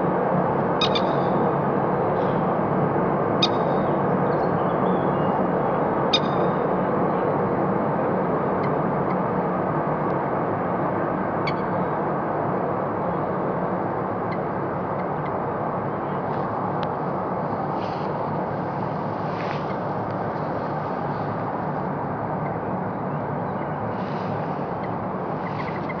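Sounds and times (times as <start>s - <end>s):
distant road traffic rumble: 0.0s - 26.0s.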